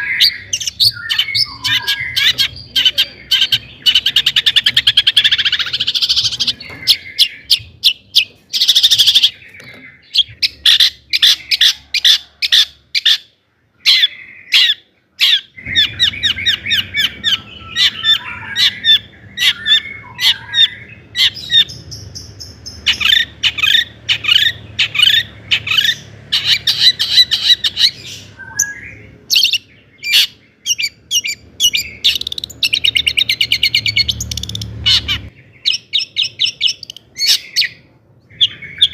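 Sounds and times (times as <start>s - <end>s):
bird singing chattering trills: 0.0s - 38.9s.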